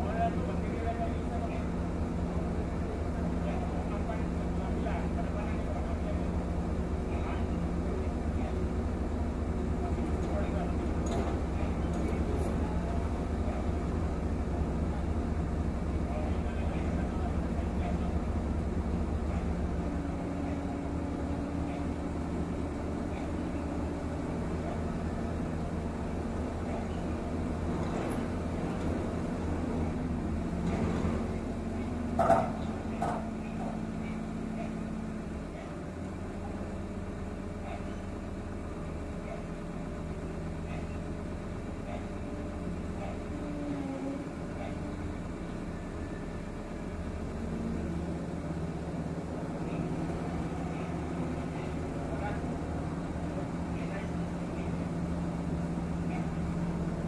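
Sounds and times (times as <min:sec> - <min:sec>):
muffled heavy equipment engine drone: 0:00.0 - 0:57.0.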